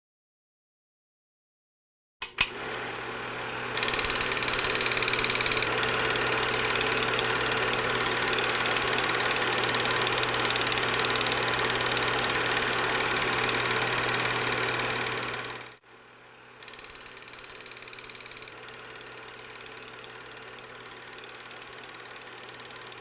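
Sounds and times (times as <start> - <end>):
film projector clatter: 2.2 - 15.8, 16.5 - 23.0
motor hum: 2.3 - 23.0.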